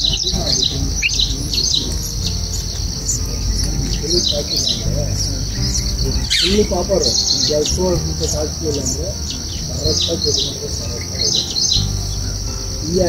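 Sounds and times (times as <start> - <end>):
crickets droning: 0.0 - 13.0
nestlings begging chirps: 0.0 - 13.0.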